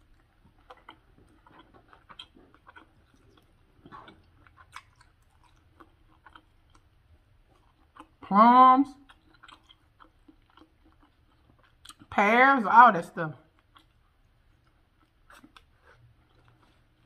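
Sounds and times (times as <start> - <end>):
person chewing: 0.0 - 8.3, 9.0 - 12.1, 13.4 - 17.0.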